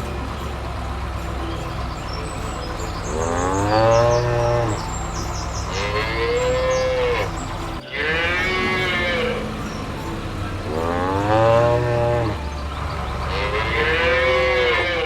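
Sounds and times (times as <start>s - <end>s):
cows mooing: 0.0s - 15.0s.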